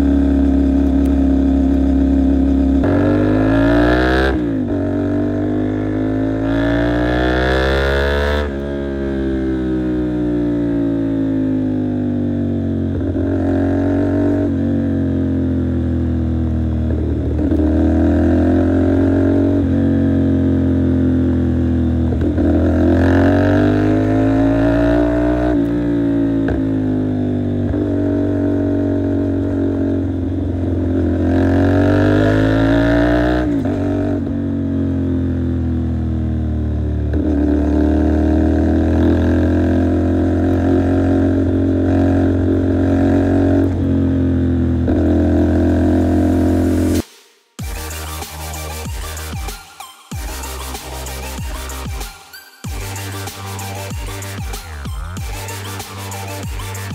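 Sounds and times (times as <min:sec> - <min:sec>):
motorcycle engine revving: 0:00.0 - 0:49.5, 0:50.2 - 0:56.9.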